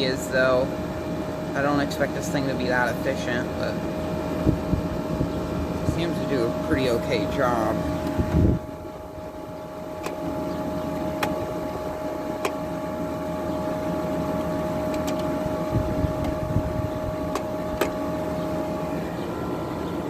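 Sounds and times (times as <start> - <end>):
compressor whine: 0.0 - 20.0
window air conditioner drone: 0.0 - 20.0.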